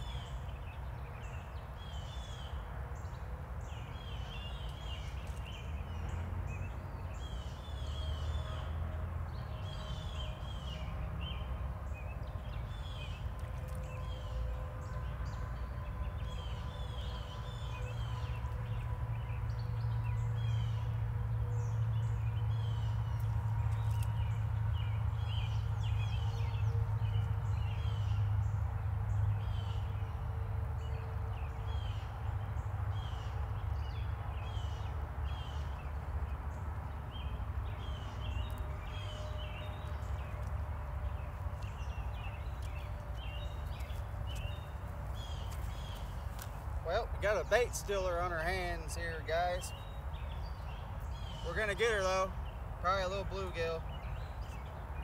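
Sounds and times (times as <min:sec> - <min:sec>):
small birds chirping: 0:00.0 - 0:08.7, 0:09.3 - 0:55.0.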